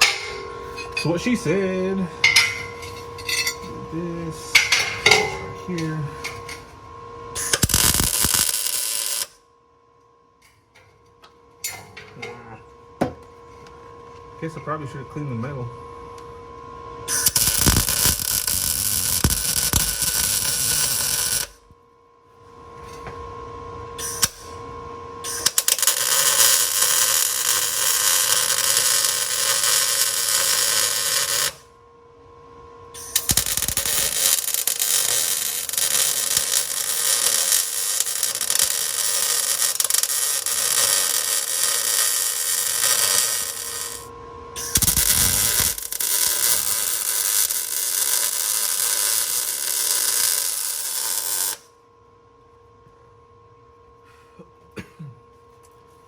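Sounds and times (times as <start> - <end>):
arc welding crackle and sizzle: 0.0 - 51.8
welder hum: 0.0 - 51.9.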